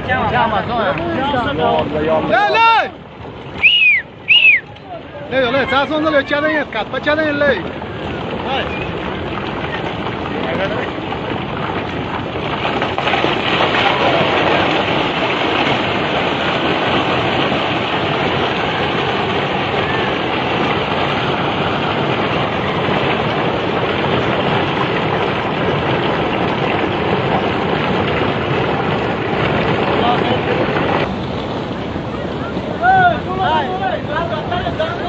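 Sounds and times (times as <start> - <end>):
water and stones rushing: 0.0 - 35.0.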